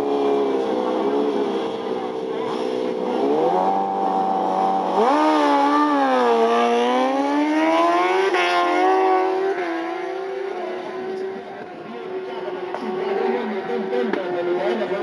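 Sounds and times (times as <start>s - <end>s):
motorcycles accelerating hard: 0.0s - 15.0s.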